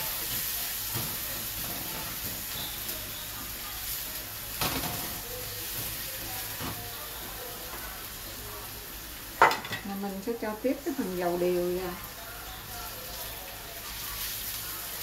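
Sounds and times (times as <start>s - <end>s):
sizzling in hot oil: 0.0s - 15.0s.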